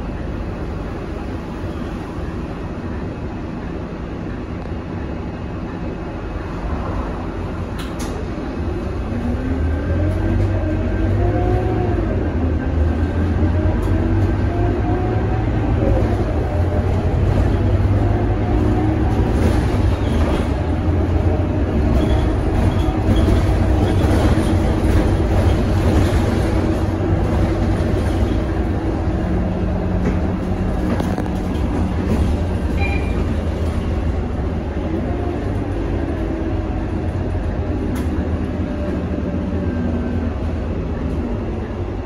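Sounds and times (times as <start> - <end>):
bus diesel engine accelerating: 0.0 - 42.0.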